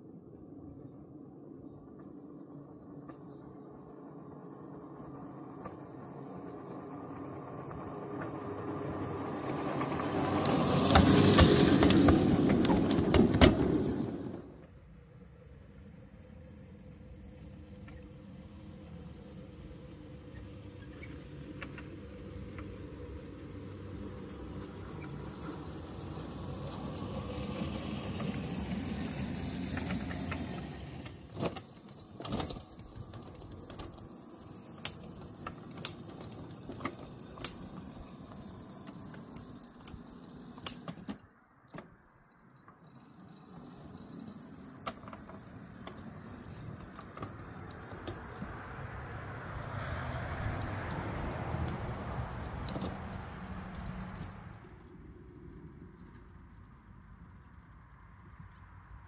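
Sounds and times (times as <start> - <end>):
miniature locomotive rumbling: 0.0 - 59.0
wheels clicking on track: 0.4 - 59.0.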